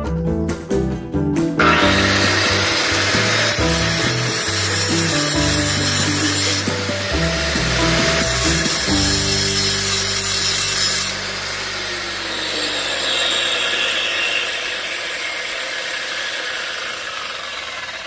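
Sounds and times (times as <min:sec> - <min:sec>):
electric grinder motor winding down: 0:01.6 - 0:18.0.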